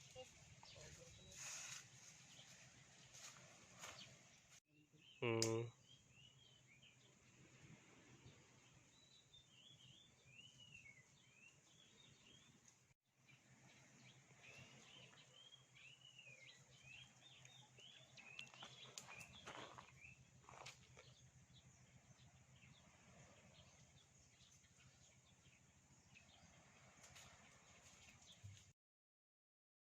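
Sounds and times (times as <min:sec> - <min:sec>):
faint bird chirping: 0:00.0 - 0:28.7.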